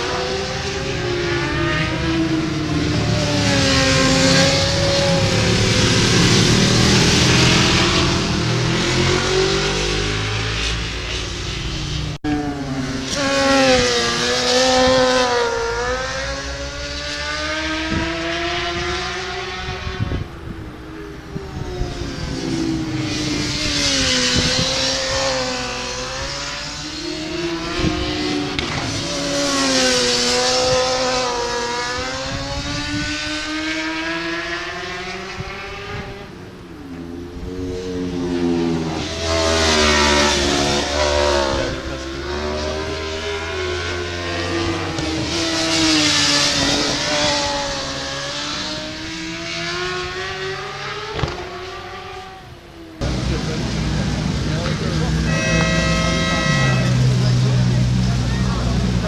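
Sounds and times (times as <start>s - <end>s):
racing motorcycles passing: 0.0s - 59.0s.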